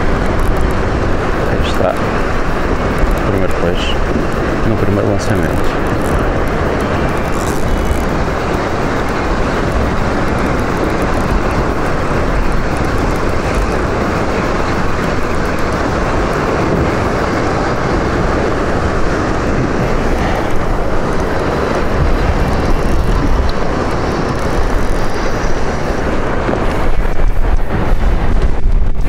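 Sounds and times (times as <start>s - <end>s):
sea surging against rocks: 0.0s - 29.0s
wind buffeting microphone: 0.0s - 29.0s.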